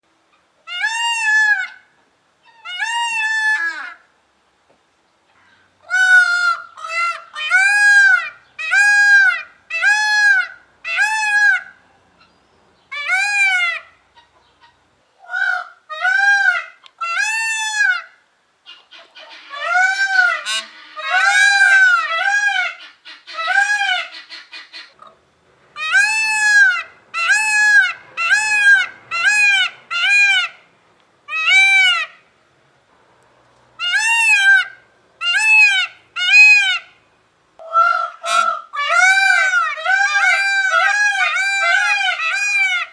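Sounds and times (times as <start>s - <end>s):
peacock calling loudly: 0.6s - 4.1s, 5.3s - 32.4s, 33.7s - 42.9s.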